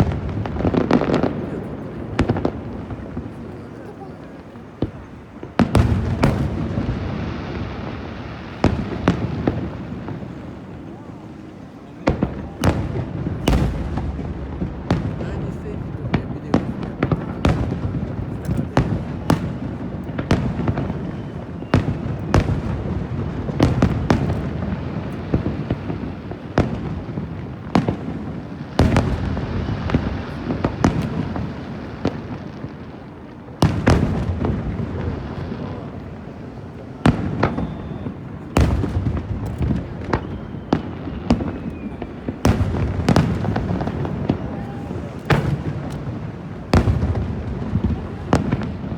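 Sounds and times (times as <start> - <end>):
fireworks bursting with echo: 0.0 - 48.9.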